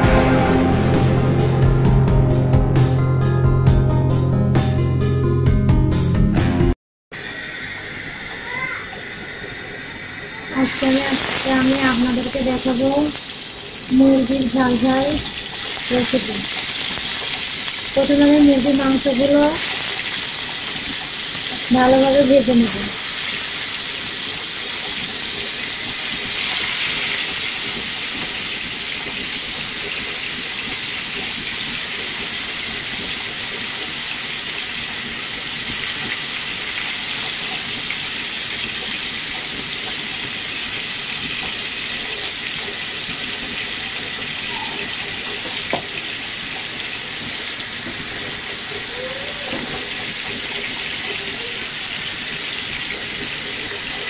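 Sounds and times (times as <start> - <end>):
chicken sizzling in oil: 7.2 - 54.0.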